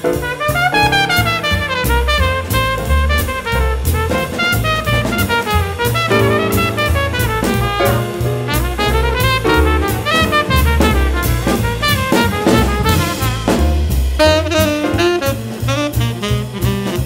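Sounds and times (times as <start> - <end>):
jazz music with saxophone and brass: 0.0 - 17.0.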